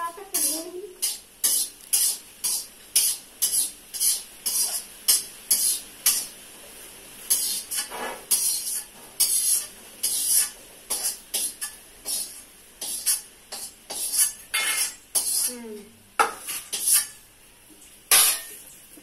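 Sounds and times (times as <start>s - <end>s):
metal ladle scraping a pan: 0.4s - 6.3s, 7.3s - 15.5s, 16.2s - 17.2s, 18.1s - 18.6s.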